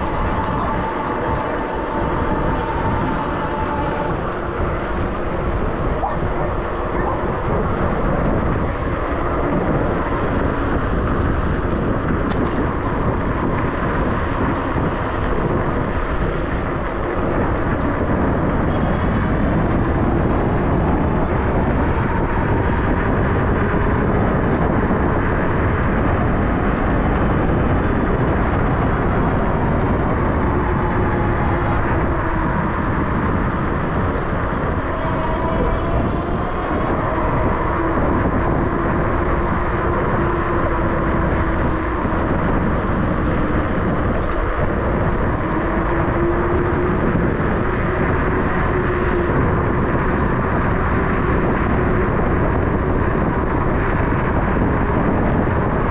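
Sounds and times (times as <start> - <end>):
faint motor whine: 0.0 - 55.9
wind buffeting microphone: 0.0 - 55.9.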